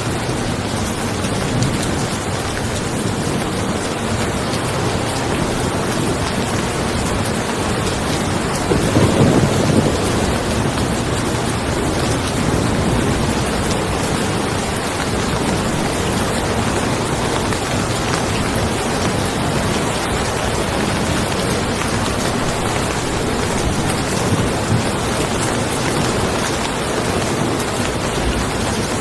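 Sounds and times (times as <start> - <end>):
rain falling on a car: 0.0 - 29.0
thunder rolling: 4.8 - 29.0.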